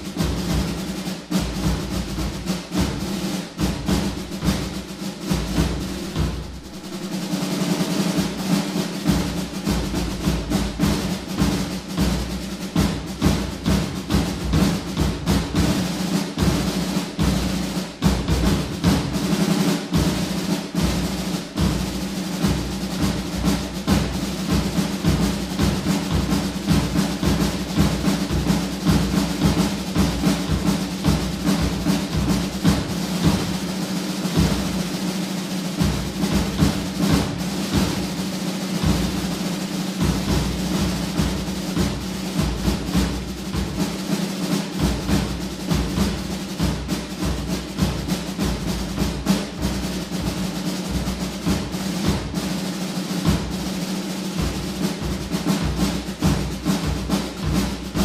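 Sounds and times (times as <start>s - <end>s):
drum solo with rolls: 0.0s - 58.0s.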